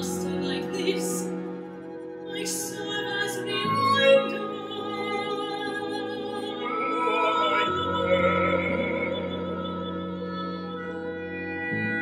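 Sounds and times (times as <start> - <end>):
operatic singing: 0.0 - 1.6, 2.3 - 12.0.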